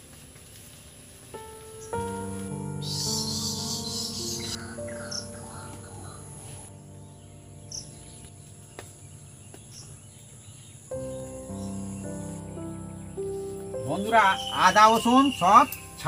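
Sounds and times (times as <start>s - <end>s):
crickets chirping: 0.0s - 16.0s
soft background music: 0.0s - 16.0s.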